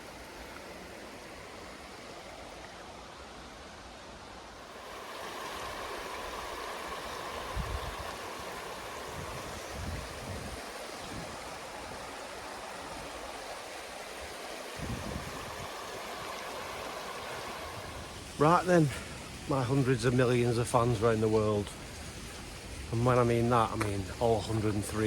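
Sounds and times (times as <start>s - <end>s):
stream rushing and gurgling: 0.0s - 25.0s.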